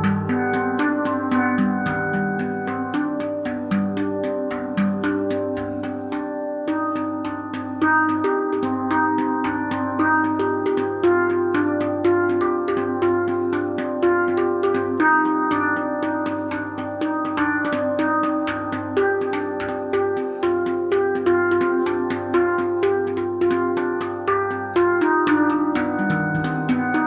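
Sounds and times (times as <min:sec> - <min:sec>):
handpan notes ringing: 0:00.0 - 0:27.0.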